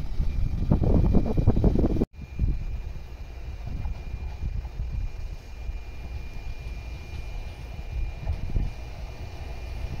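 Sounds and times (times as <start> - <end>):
electric train rumble: 0.0 - 10.0.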